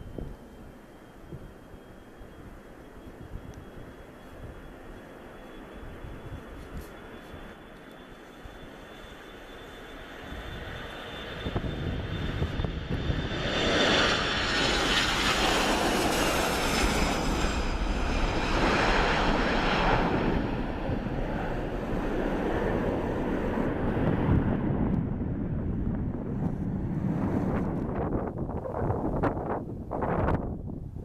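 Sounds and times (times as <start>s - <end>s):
airliner engines roaring: 0.0s - 31.0s.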